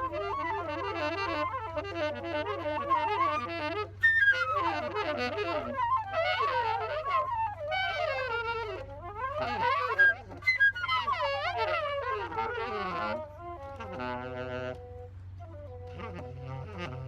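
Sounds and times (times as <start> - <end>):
faint low hum: 0.0 - 17.0
wind instruments sliding melody: 0.0 - 17.0.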